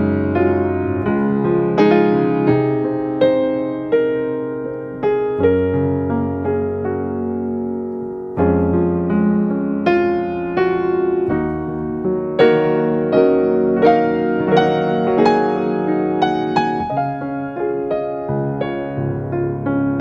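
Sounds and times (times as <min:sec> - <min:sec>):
calm piano melody: 0:00.0 - 0:20.0.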